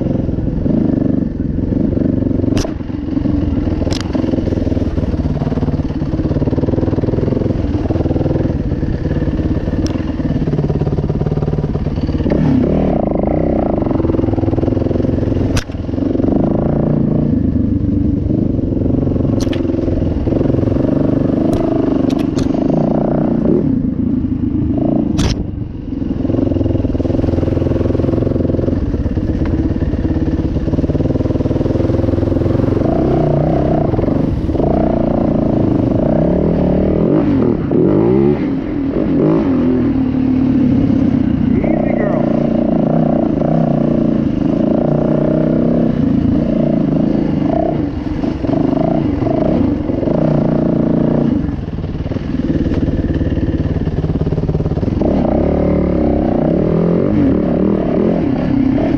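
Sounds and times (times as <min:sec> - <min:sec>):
dirt bike engine revving: 0:01.8 - 0:17.3, 0:26.3 - 0:51.6, 0:52.2 - 0:58.9.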